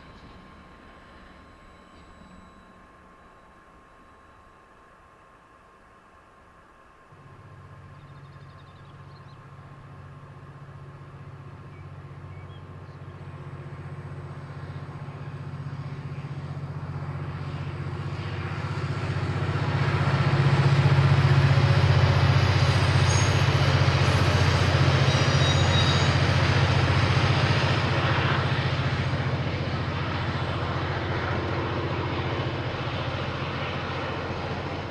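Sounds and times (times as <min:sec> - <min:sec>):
diesel locomotive engine hum: 0:00.0 - 0:34.9
train rumble: 0:00.0 - 0:34.9.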